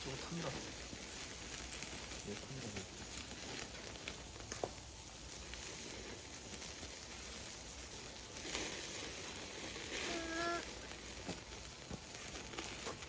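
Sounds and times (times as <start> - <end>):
fire crackling: 0.0 - 13.0
meat sizzling on a grill: 0.0 - 13.0.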